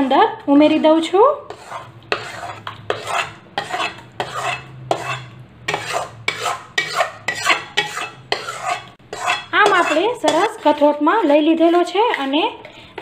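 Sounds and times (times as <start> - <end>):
steel spatula scraping pan: 0.0 - 13.0.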